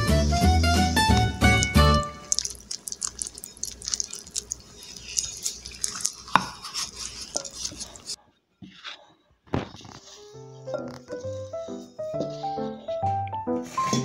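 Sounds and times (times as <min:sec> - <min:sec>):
wooden spoon stirring dough: 0:00.9 - 0:09.1, 0:09.7 - 0:13.0.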